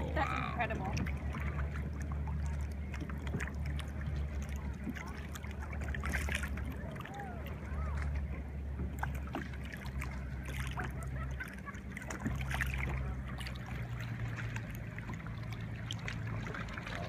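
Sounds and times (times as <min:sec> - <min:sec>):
low steady rumble: 0:00.0 - 0:17.0
water lapping against boat hull: 0:00.0 - 0:17.0.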